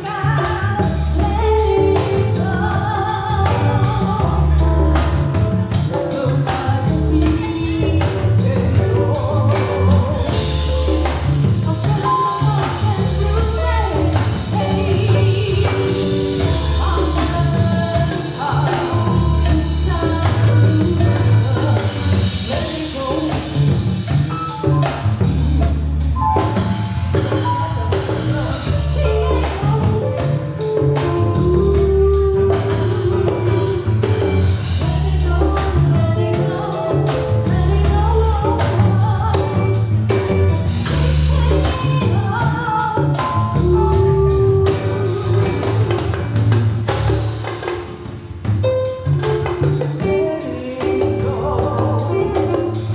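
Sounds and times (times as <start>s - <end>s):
person singing: 0.0s - 23.8s, 26.4s - 46.4s, 49.0s - 52.9s
live band playing: 0.0s - 52.9s.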